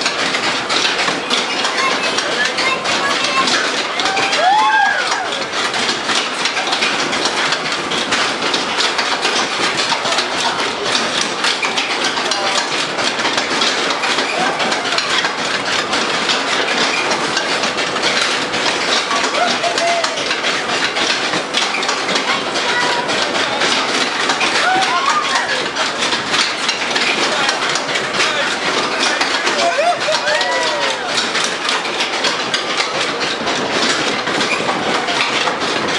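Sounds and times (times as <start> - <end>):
ride cars rattling: 0.0 - 35.9.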